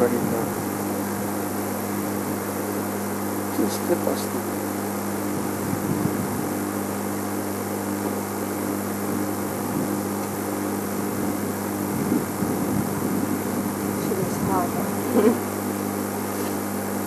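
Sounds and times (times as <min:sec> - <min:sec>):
constant hiss: 0:00.0 - 0:17.0
steady low hum: 0:00.0 - 0:17.0.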